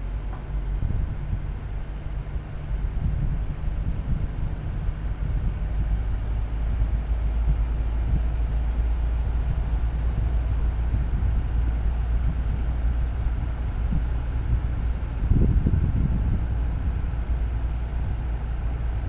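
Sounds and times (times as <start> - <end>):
vehicle driving on paved road: 0.0 - 19.0
wind buffeting microphone: 0.0 - 19.0.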